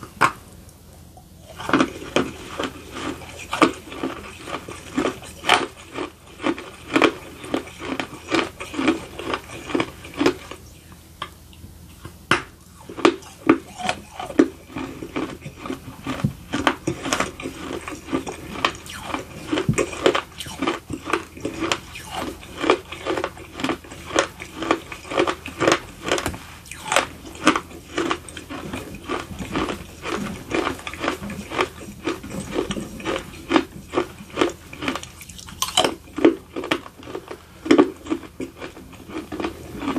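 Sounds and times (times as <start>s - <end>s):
crisp crunching and chewing: 1.5s - 10.9s, 12.6s - 39.9s.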